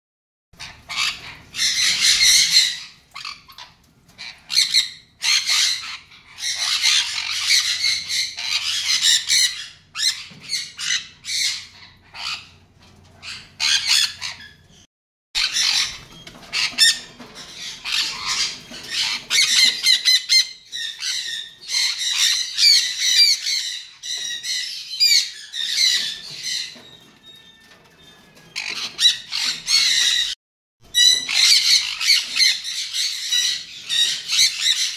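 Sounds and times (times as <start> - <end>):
parrots calling shrilly: 0.6 - 12.6, 13.2 - 14.8, 15.4 - 27.7, 28.4 - 34.9.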